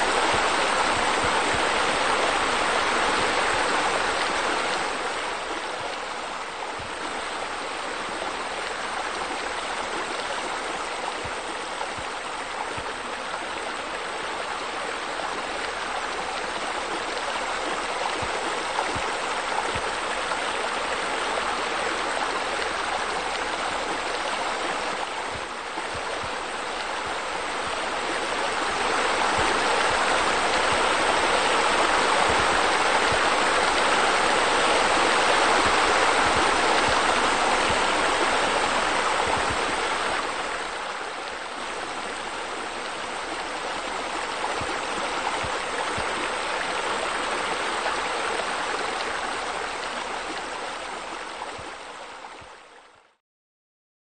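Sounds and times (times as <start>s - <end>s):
waterfall splashing: 7.4s - 52.2s.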